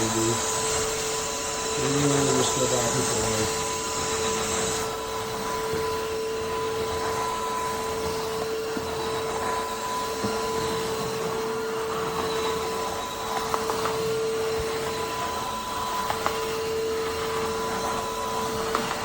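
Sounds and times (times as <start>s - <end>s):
vacuum mop motor whine: 0.0s - 19.0s.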